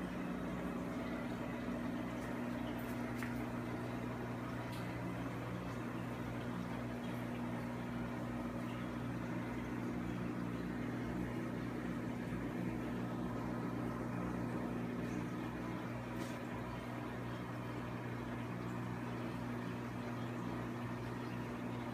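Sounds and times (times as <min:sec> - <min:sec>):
aquarium equipment hum: 0:00.0 - 0:21.9.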